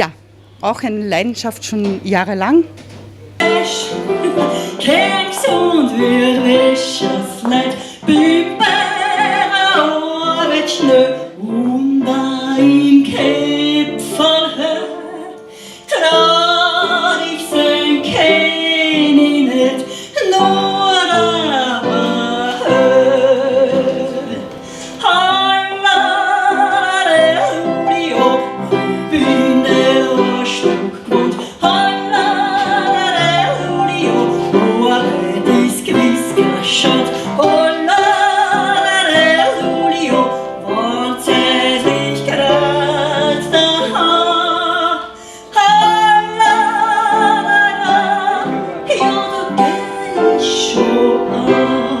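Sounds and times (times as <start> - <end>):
person singing with vibrato: 3.4 - 52.0.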